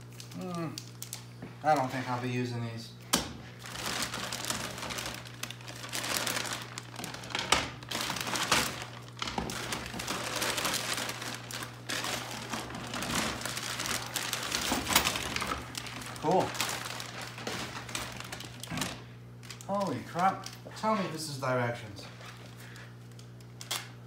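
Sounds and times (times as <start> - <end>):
plastic bag crinkling: 0.0 - 2.1, 3.5 - 20.8
steady low hum: 0.0 - 24.0.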